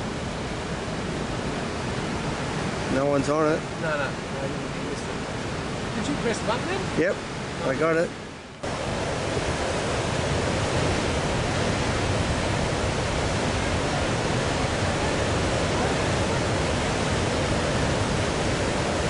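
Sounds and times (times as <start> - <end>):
surf breaking over reef: 0.0 - 19.0.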